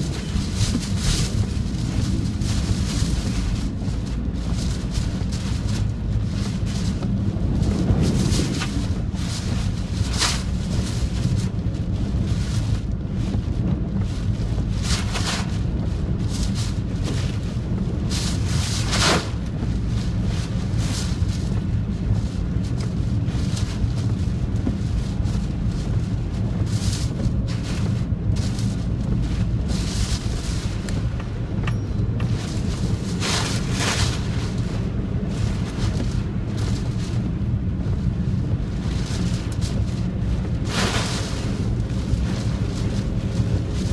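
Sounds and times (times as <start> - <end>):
strong wind buffeting microphone: 0.0 - 43.9.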